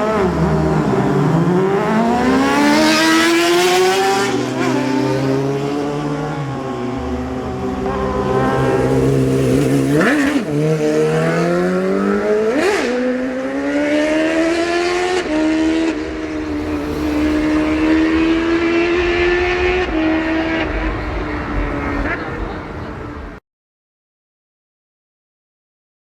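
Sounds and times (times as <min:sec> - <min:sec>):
motorcycle engine accelerating: 0:00.0 - 0:23.4.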